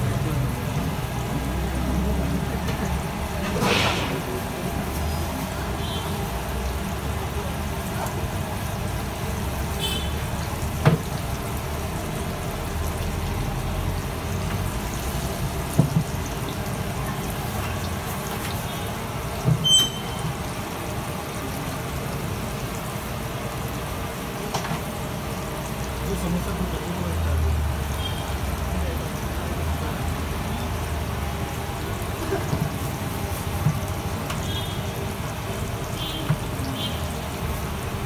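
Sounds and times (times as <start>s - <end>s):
food deep-frying in oil: 0.0s - 38.0s.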